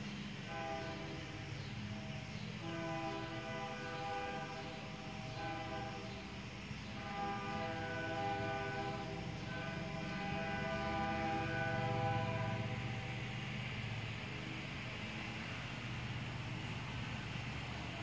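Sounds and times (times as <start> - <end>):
locomotive engine rumble: 0.0 - 18.0
locomotive horn blasts: 0.0 - 18.0.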